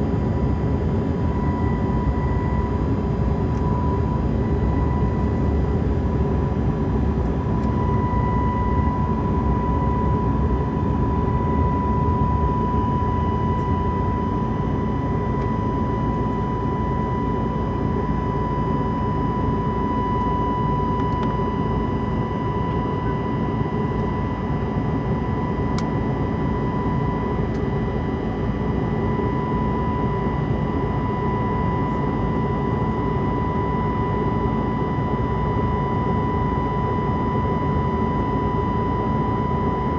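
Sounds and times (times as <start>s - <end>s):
aircraft cabin engine and airflow: 0.0s - 39.9s
constant high whine: 0.0s - 39.9s.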